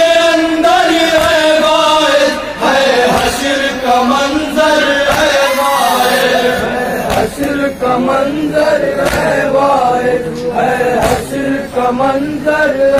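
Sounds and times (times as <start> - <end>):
men chanting in unison: 0.0 - 12.9.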